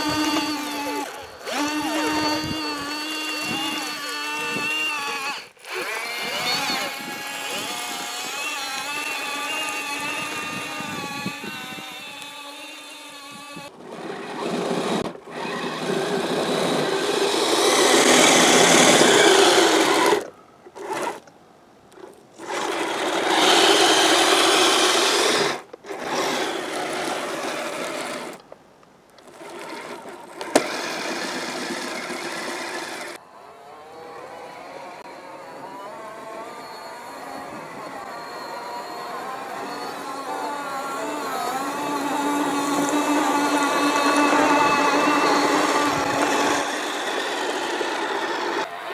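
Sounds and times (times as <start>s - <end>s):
electric motor whine: 0.0s - 21.2s, 22.4s - 28.4s, 29.3s - 48.9s.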